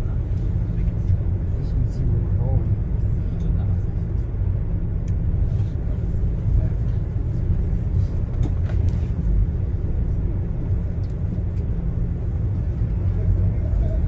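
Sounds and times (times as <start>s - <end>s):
rail car rumbling on track: 0.0s - 14.0s.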